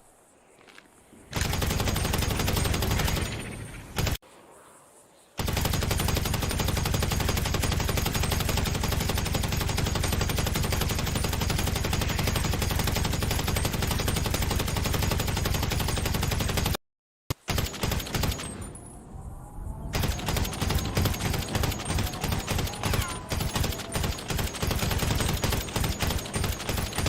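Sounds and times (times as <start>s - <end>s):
machine-gun fire: 1.3s - 4.2s, 5.4s - 18.7s, 19.9s - 27.0s.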